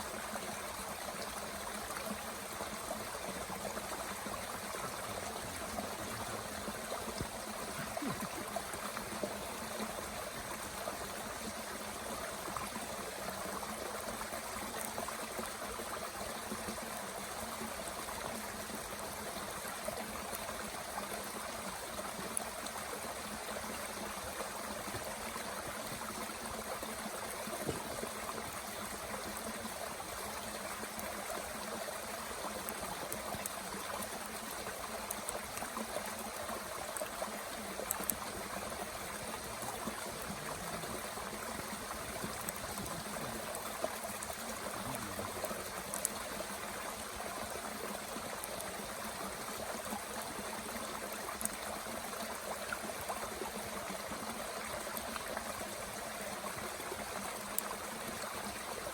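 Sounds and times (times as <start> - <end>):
stream running: 0.0 - 58.9.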